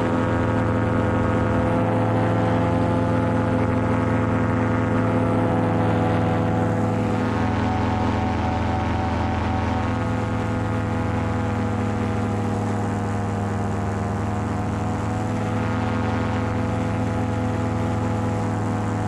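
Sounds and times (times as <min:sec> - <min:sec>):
paramotor engine drone: 0:00.0 - 0:19.0.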